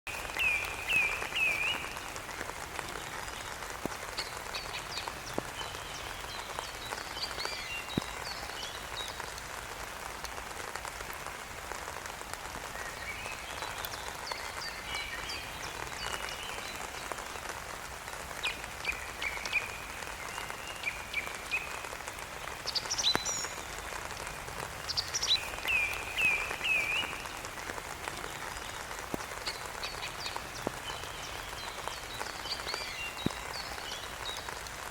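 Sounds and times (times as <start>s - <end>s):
rainfall hissing: 0.1s - 34.9s.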